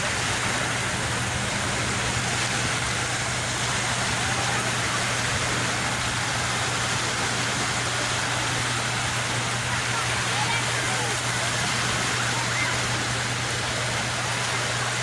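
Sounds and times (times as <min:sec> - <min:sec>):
sea waves rushing: 0:00.0 - 0:15.0.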